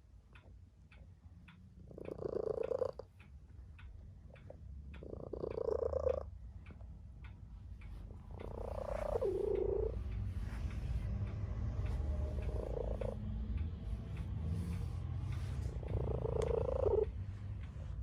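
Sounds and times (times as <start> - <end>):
light ticking: 0.0 - 18.0.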